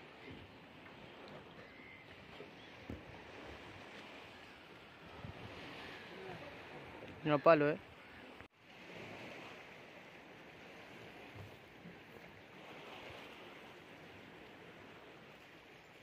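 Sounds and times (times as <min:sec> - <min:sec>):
river water washing: 0:00.0 - 0:16.0.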